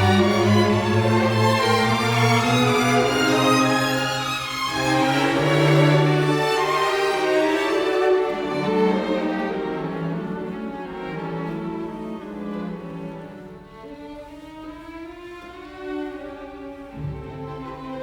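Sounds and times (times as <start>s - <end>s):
slow bowed strings: 0.0s - 18.0s.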